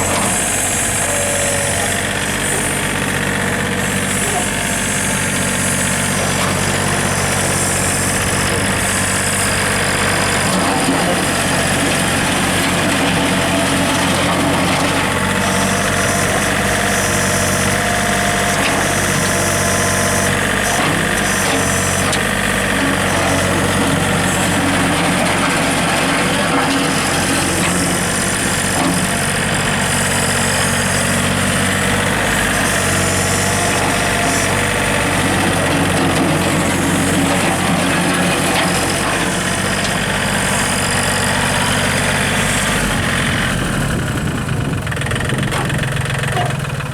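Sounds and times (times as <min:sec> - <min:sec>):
tractor diesel engine idling: 0:00.0 - 0:46.9.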